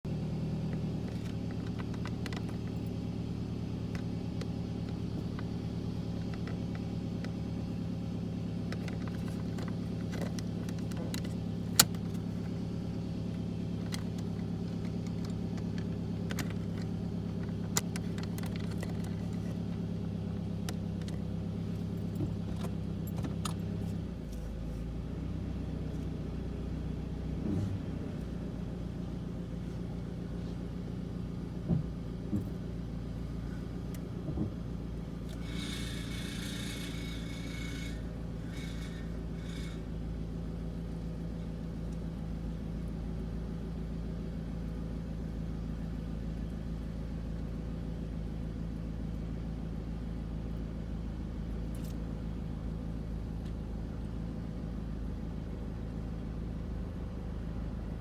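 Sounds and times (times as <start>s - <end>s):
car engine drone: 0.0s - 58.0s.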